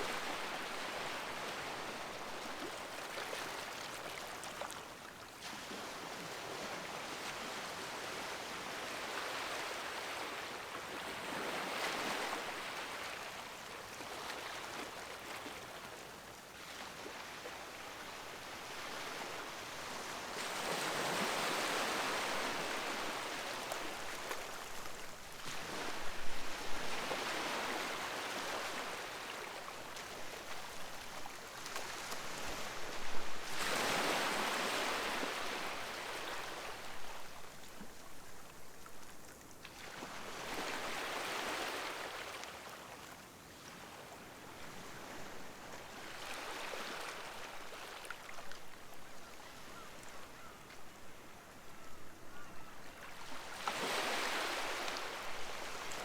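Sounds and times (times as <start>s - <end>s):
sea waves breaking on shore: 0.0s - 4.8s, 5.4s - 37.5s, 39.7s - 48.8s, 53.0s - 56.0s.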